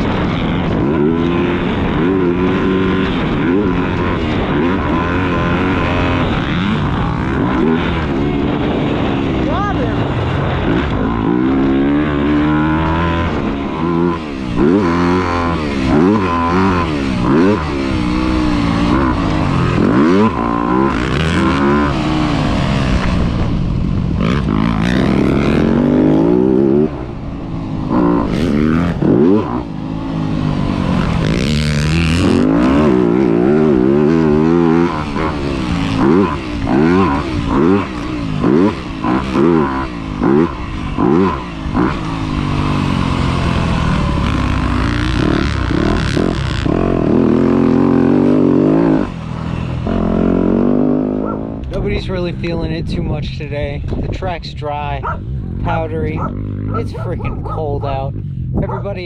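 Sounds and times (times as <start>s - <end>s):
dirt bike engine revving: 0.0s - 54.0s, 54.6s - 59.0s.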